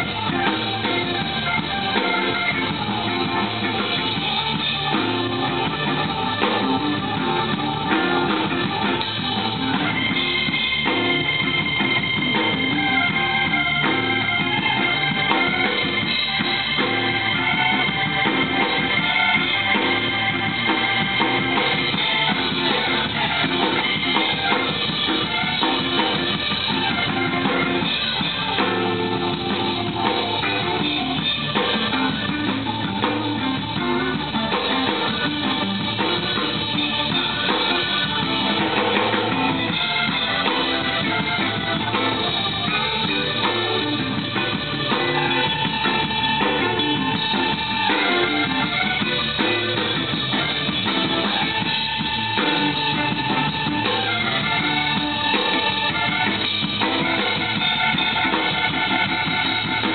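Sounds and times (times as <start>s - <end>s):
blues-rock band playing: 0.0s - 59.9s.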